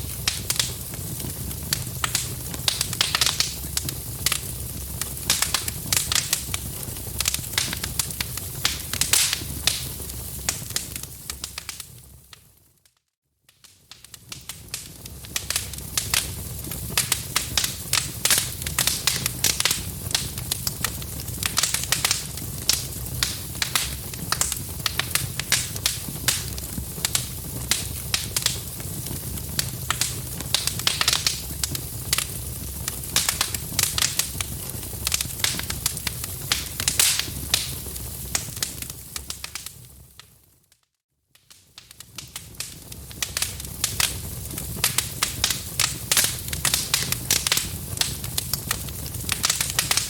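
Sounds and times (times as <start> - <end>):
low rumble of flames: 0.0 - 12.3, 14.0 - 40.0, 41.9 - 50.0
wood fire crackling and popping: 0.0 - 50.0.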